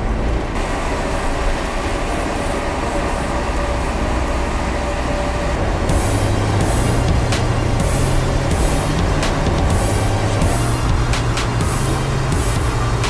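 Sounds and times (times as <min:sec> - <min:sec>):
road and engine noise in cabin: 0:00.0 - 0:13.0.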